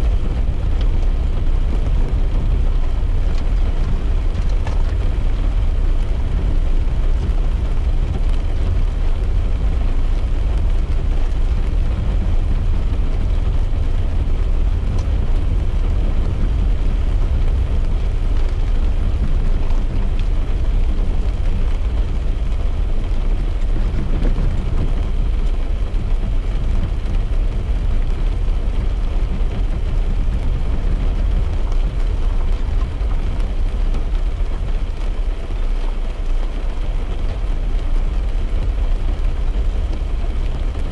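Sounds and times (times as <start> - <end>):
car interior rumble: 0.0 - 40.9
rain hiss: 0.0 - 40.9.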